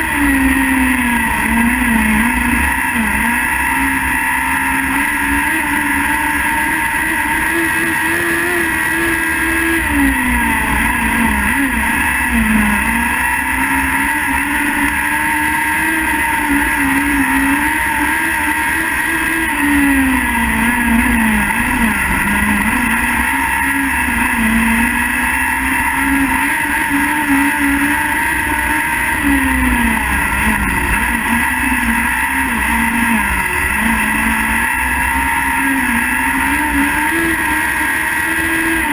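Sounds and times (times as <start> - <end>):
racing engine revving: 0.0 - 38.9.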